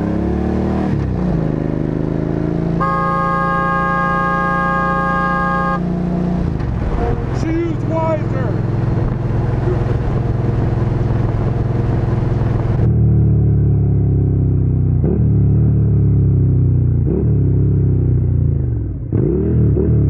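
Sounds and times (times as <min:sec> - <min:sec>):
motorcycle engine running: 0:01.6 - 0:19.4.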